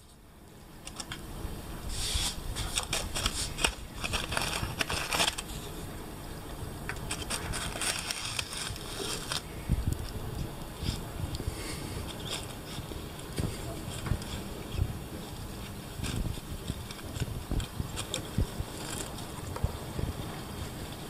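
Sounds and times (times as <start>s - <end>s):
dry leaf crackling: 0.0s - 21.0s
cat claws scraping: 0.8s - 5.8s, 6.9s - 19.6s.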